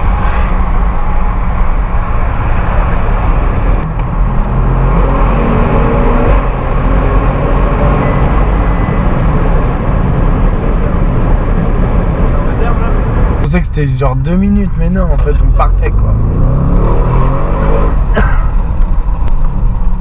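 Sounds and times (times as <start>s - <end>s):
car engine accelerating: 0.0s - 20.0s
road noise: 0.0s - 20.0s.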